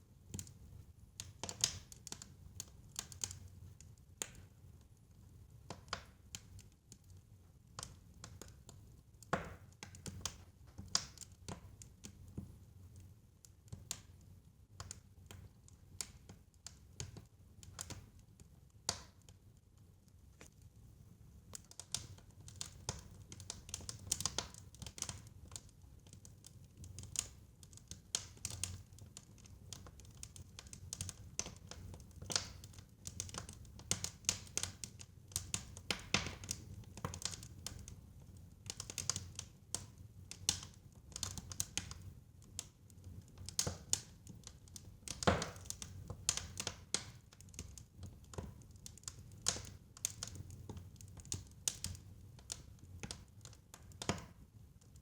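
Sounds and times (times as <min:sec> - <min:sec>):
fire crackling and popping: 0:00.3 - 0:55.0.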